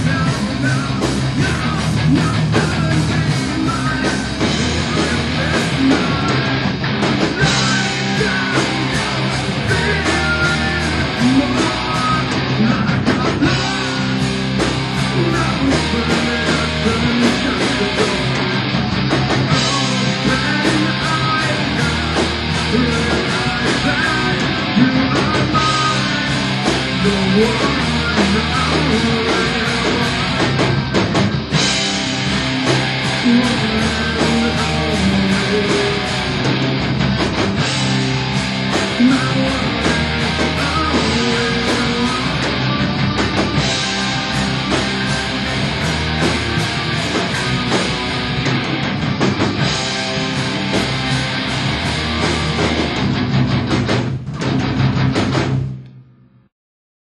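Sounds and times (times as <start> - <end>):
rock band playing: 0.0 - 56.1.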